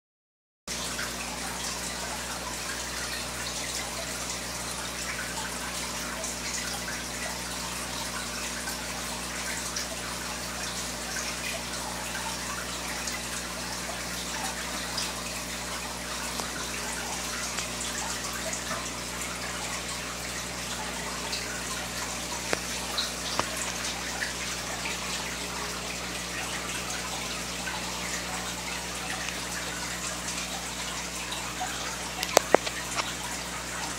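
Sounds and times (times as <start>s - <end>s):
aquarium bubbles: 0.7s - 33.9s.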